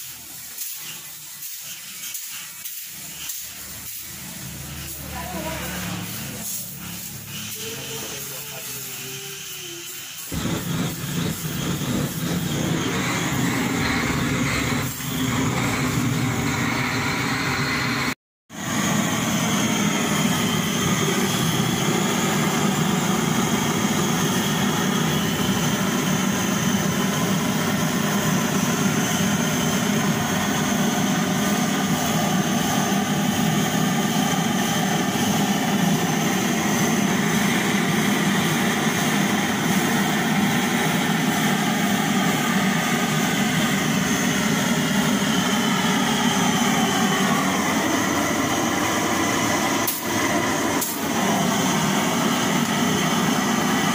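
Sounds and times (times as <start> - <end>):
blowtorch roaring: 1.4 - 53.9.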